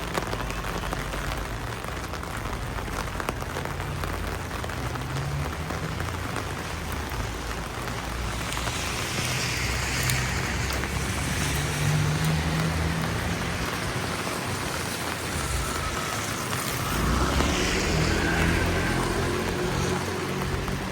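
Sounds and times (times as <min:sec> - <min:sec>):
rain falling on a street: 0:00.0 - 0:20.9
vehicle passing on wet road: 0:00.0 - 0:20.9.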